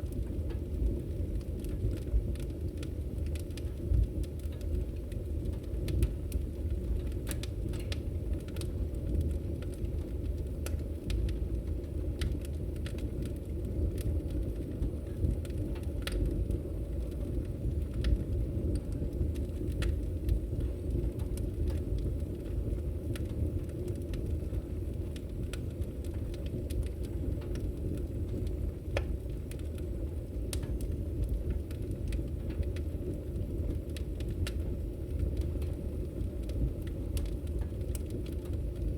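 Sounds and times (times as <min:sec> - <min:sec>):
low rumble of burning fire: 0:00.0 - 0:38.9
wood fire pops and snaps: 0:00.0 - 0:38.9.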